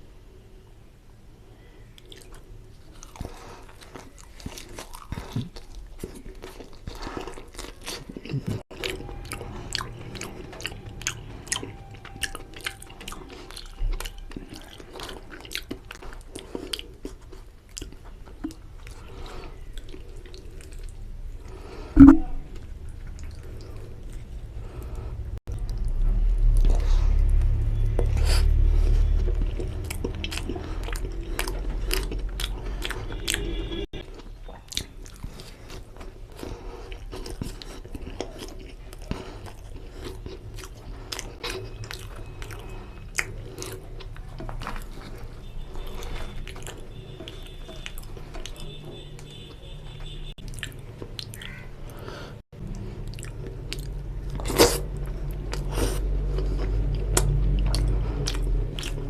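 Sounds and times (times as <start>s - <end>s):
wet chewing and smacking: 1.9s - 59.0s.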